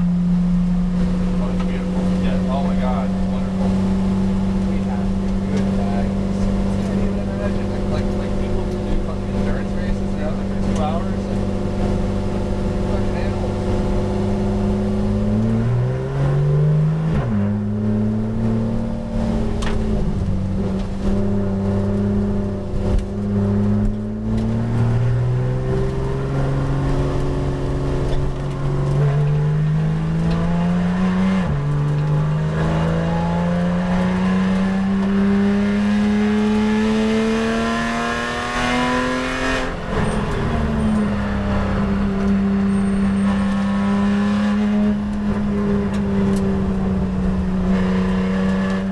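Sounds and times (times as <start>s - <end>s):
race car engine revving from inside: 0.0s - 48.9s.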